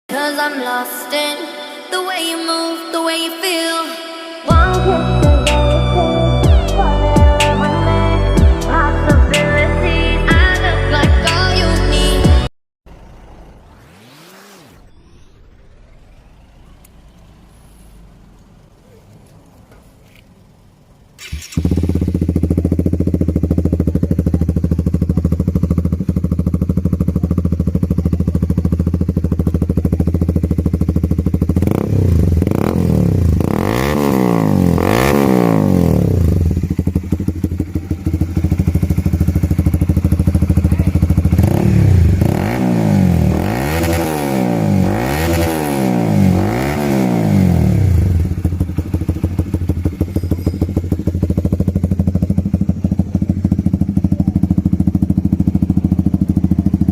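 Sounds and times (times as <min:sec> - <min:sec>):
motorcycle engine idling and revving: 0:04.5 - 0:56.9.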